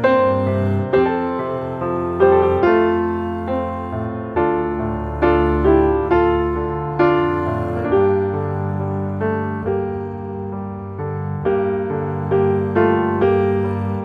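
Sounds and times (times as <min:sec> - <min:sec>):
soft slow piano music: 0:00.0 - 0:14.0.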